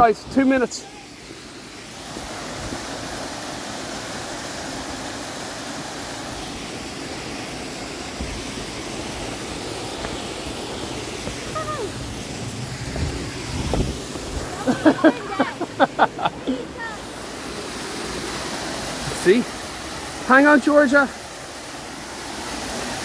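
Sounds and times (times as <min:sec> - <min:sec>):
waterfall roar: 0:00.0 - 0:23.0.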